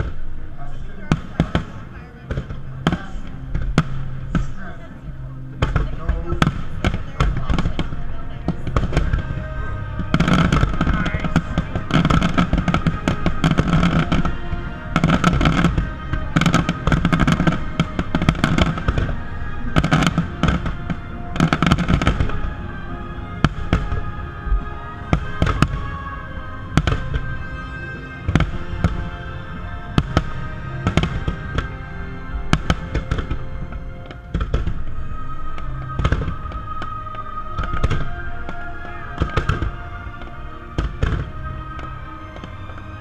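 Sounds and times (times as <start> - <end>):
fireworks bursting: 0.0 - 43.0
music playing: 0.0 - 43.0.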